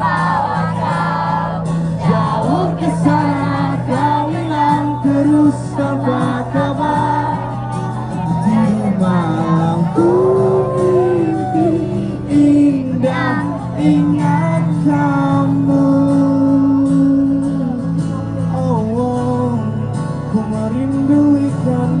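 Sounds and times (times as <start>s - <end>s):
guitar chords: 0.0s - 22.0s
held melody line: 0.0s - 22.0s
person singing: 2.0s - 22.0s.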